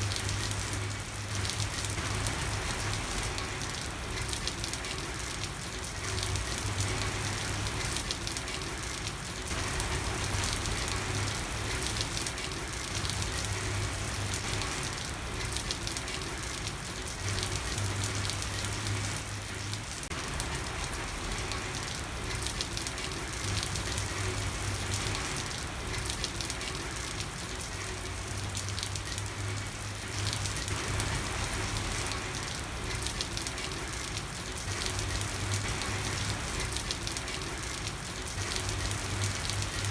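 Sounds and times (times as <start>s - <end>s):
rain on a street: 0.0s - 39.9s.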